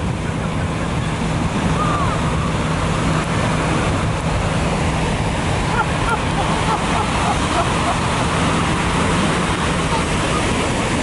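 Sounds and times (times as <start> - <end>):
surf breaking: 0.0 - 11.0
wind buffeting microphone: 0.0 - 11.0.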